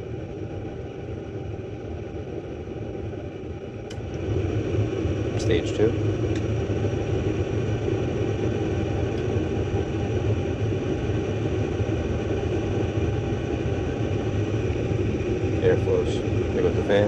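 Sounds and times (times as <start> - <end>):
gas furnace rumbling: 0.0 - 17.0.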